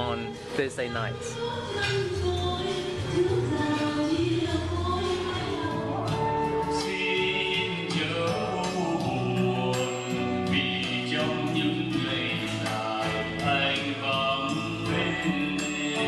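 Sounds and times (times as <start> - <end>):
karaoke backing track: 0.0 - 16.0
person singing: 0.0 - 16.0.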